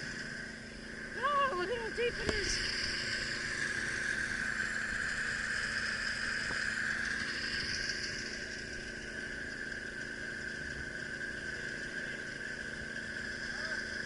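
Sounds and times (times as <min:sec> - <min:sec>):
engine running with high whine: 0:00.0 - 0:14.0.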